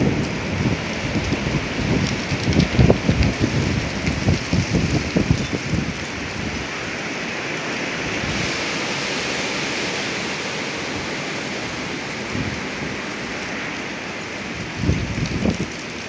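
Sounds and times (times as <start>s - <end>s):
strong wind rushing: 0.0s - 16.0s.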